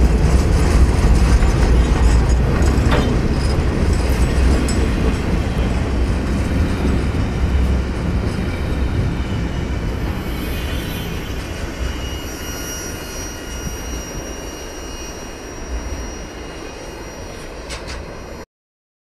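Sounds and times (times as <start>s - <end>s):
high wheel squeal: 0.0s - 18.4s
train wheels rumbling on rails: 0.0s - 18.4s.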